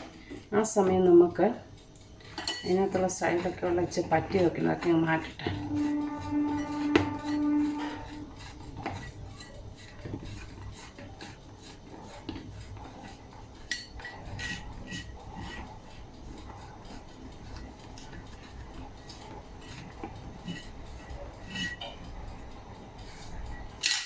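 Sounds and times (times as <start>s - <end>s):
utensil scraping a baking tray: 2.2s - 24.0s.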